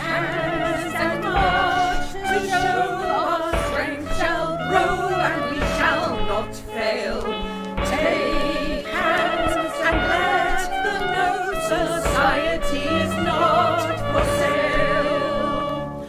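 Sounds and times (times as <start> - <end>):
deep beat: 0.0 - 15.7
woman singing: 0.0 - 15.8
backing vocals: 0.0 - 15.9
instrumental accompaniment: 0.0 - 16.0.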